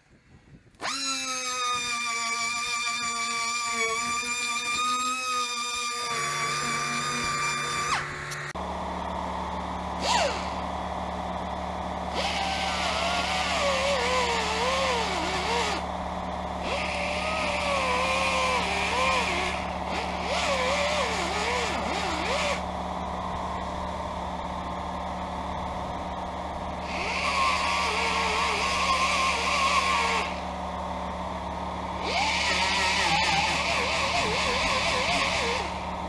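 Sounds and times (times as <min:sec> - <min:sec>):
steady low hum: 0:00.0 - 0:36.0
pneumatic grinder whining: 0:00.7 - 0:36.0.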